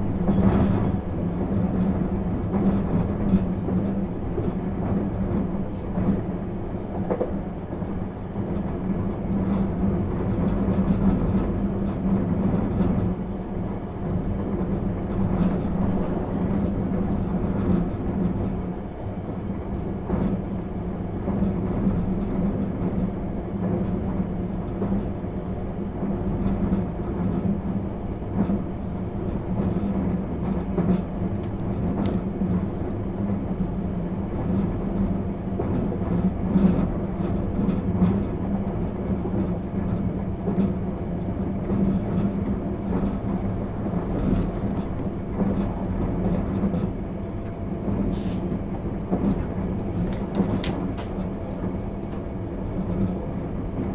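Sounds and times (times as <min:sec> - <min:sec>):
train running hum: 0:00.0 - 0:53.9.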